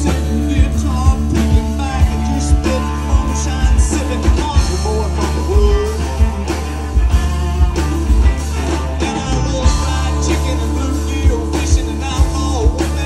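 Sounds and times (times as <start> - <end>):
bass guitar: 0.0 - 13.0
drum kit beat: 0.0 - 13.0
electric guitars: 0.0 - 13.0.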